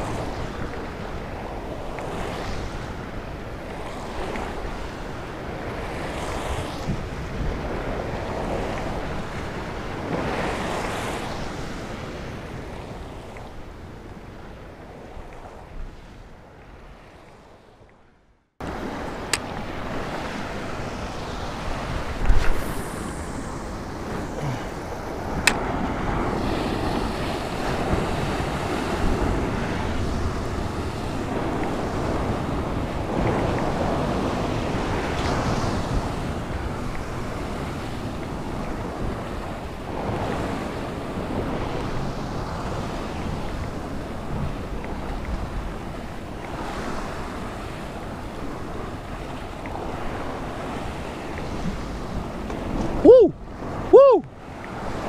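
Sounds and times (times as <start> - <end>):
wind buffeting microphone: 0.0 - 17.8, 18.6 - 55.0.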